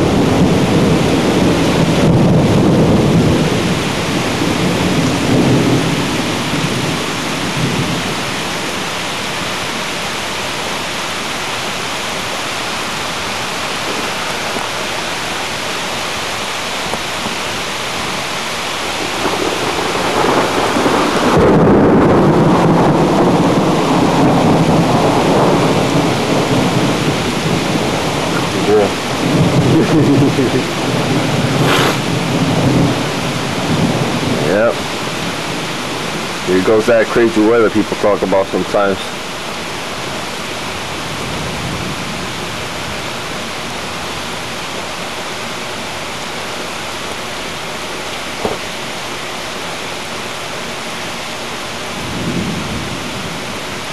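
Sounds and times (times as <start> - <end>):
thunder rumbling: 0.0 - 10.4, 11.4 - 50.1, 51.7 - 53.9
rain hissing: 0.0 - 53.9.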